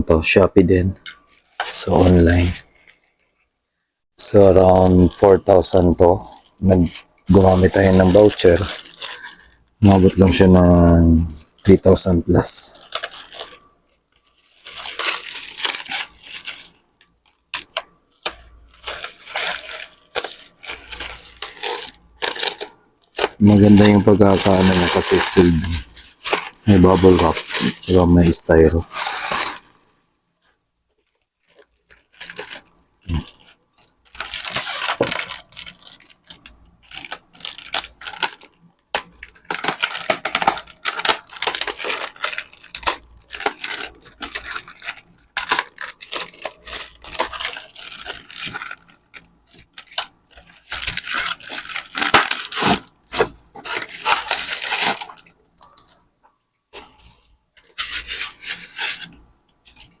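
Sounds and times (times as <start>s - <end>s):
plastic packaging rustling and crinkling: 0.1s - 60.0s.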